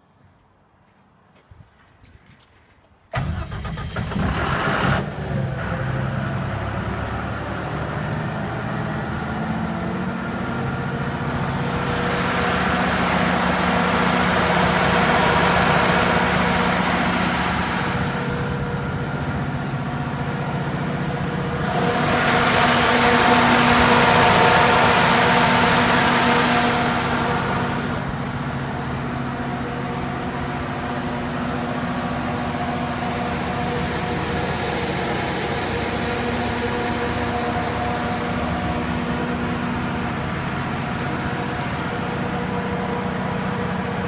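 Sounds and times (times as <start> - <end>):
diesel generator starting and running: 0.0 - 44.0.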